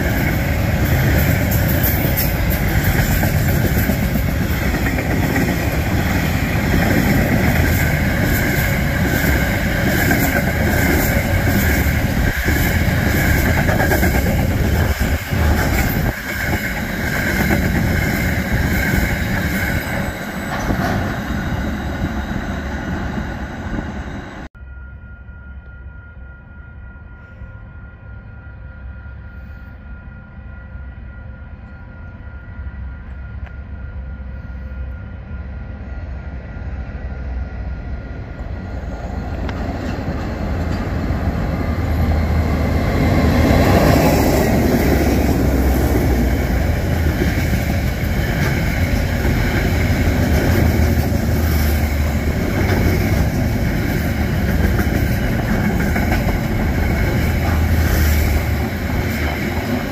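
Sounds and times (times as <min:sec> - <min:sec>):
diesel locomotive passing: 0:00.0 - 0:59.9.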